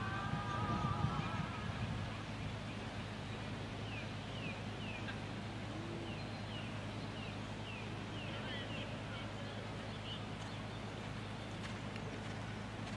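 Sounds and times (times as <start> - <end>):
low background hum: 0.0 - 12.9.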